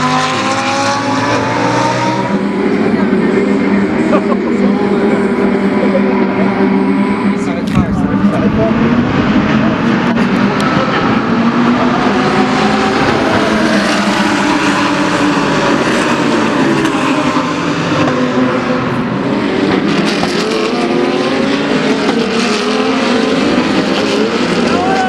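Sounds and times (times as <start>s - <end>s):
race car engines at full throttle: 0.0s - 25.0s.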